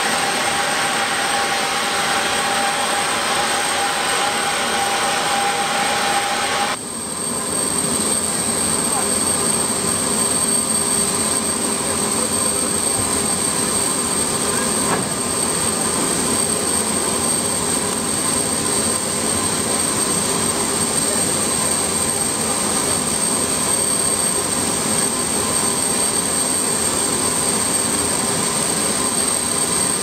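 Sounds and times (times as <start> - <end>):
aircraft turbine running: 0.0 - 30.0.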